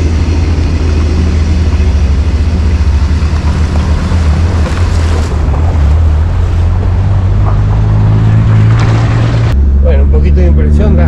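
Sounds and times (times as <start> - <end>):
pickup engine and road rumble: 0.0 - 11.0.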